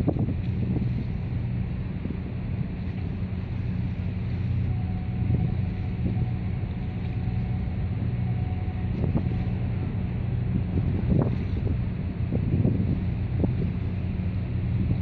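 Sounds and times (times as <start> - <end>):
faint thin whine: 0.0 - 15.0
low engine drone: 0.0 - 15.0.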